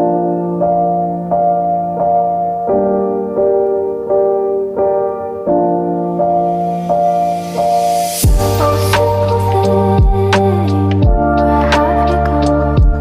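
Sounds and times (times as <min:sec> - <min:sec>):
piano playing sustained chords: 0:00.0 - 0:13.0.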